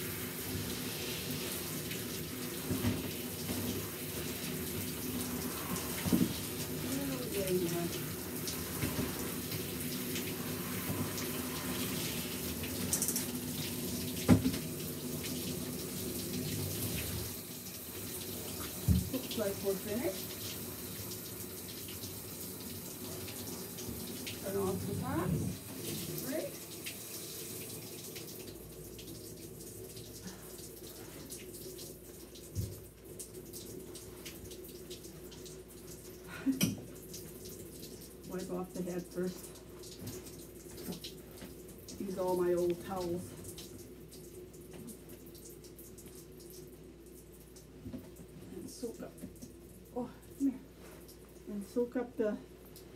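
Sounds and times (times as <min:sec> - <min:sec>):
water running from shower sprayer: 0:00.0 - 0:46.3.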